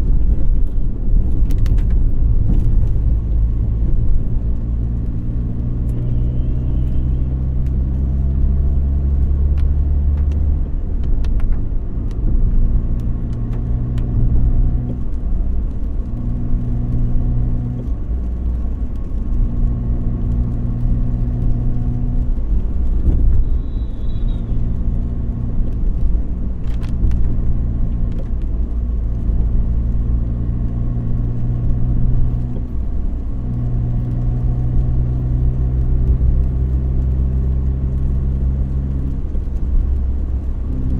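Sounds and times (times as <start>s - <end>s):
car engine hum: 0.0s - 40.9s
road rumble: 0.0s - 40.9s.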